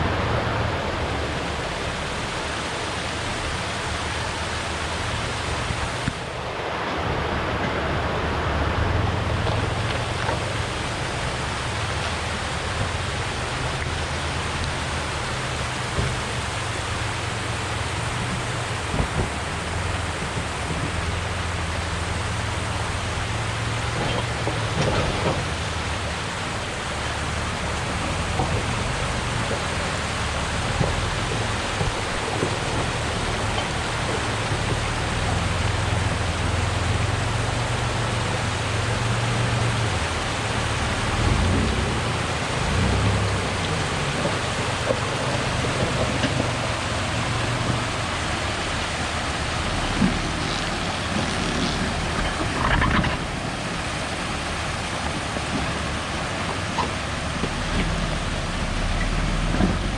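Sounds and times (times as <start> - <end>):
continuous hiss: 0.0 - 59.9
vehicle engine droning: 0.0 - 59.9.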